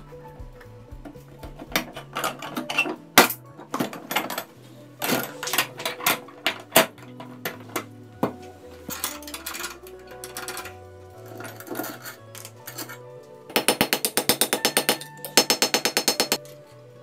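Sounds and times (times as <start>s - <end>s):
metal trap parts clanking: 1.7s - 7.9s, 8.8s - 16.6s.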